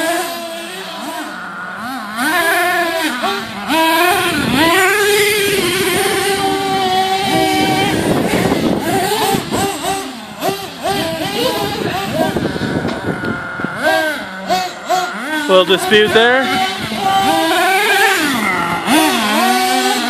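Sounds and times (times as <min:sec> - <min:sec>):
small nitro engines revving: 0:00.0 - 0:20.0.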